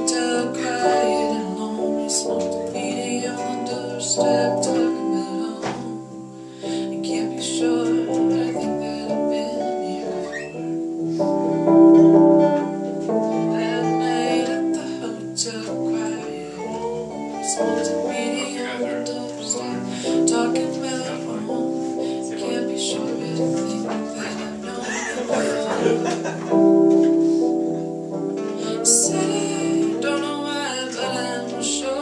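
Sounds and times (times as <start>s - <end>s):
plucked guitar music: 0.0s - 32.0s.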